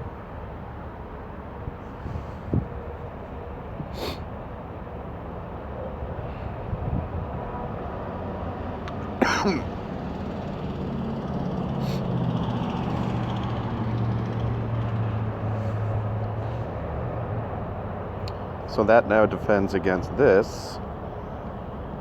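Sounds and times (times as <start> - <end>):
low vehicle engine hum: 0.0 - 22.0.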